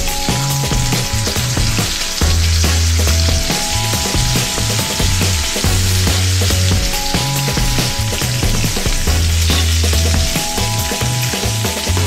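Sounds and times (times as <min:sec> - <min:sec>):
deep-frying sizzle: 0:00.0 - 0:12.0
music with pulsing bass: 0:00.0 - 0:12.0.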